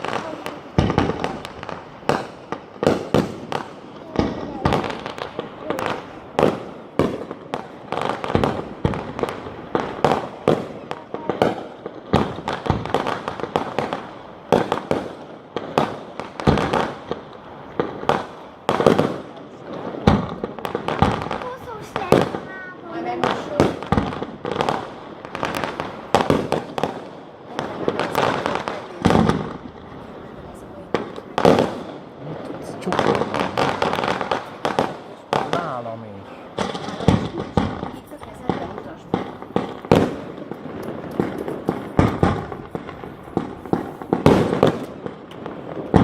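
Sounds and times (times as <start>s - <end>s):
deep firework boom: 0.0s - 35.7s, 36.5s - 46.0s
fireworks bangs and crackling: 0.0s - 46.0s.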